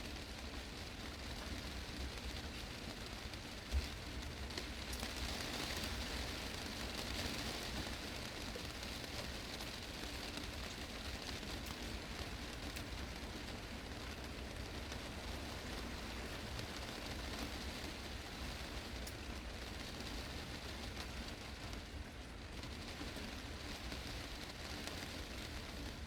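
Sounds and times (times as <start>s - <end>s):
heavy rain on glass roof: 0.0s - 26.0s.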